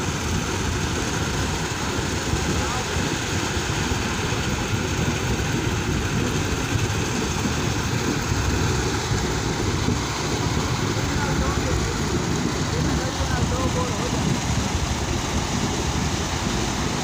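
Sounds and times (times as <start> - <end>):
diesel engine running: 0.0 - 17.0
wet concrete pouring down chute: 0.0 - 17.0.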